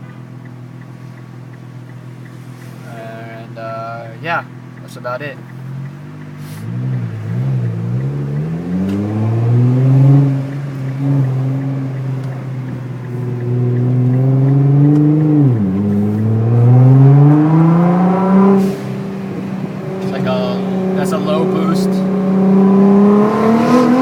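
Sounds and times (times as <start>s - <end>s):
car engine revving under load: 0.0s - 24.0s.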